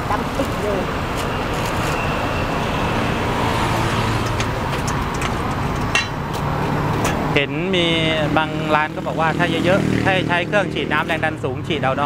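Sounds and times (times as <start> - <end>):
roadside traffic: 0.0 - 12.0.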